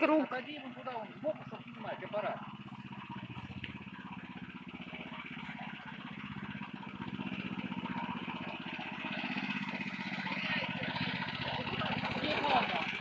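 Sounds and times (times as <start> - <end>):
petrol engine running: 0.0 - 13.0.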